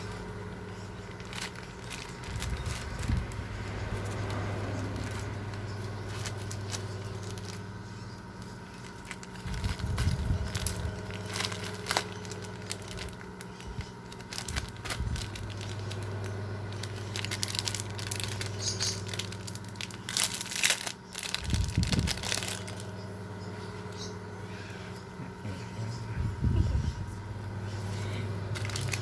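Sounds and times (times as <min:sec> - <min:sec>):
packaging crinkling and tearing: 0:00.0 - 0:23.0, 0:27.9 - 0:29.0
steady low hum: 0:00.0 - 0:29.0.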